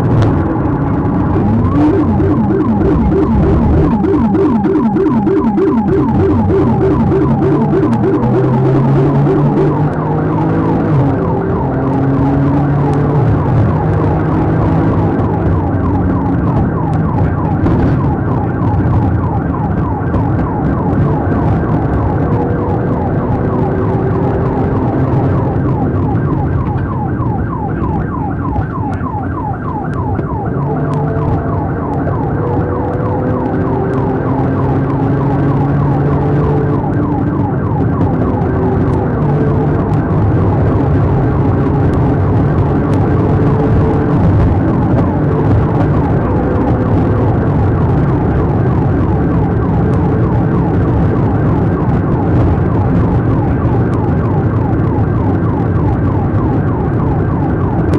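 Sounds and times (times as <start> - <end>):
vehicle road noise: 0.0 - 57.9
police siren wailing and yelping: 0.4 - 57.9.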